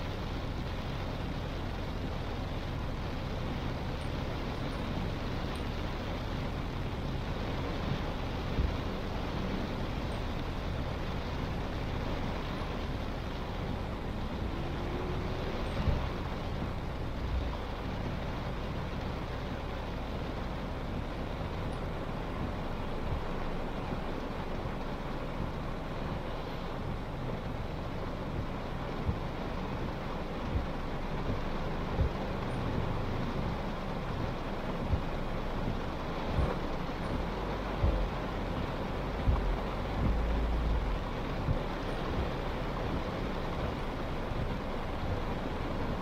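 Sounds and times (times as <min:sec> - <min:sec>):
rain hiss: 0:00.0 - 0:46.0
wet road tyre noise: 0:00.0 - 0:46.0.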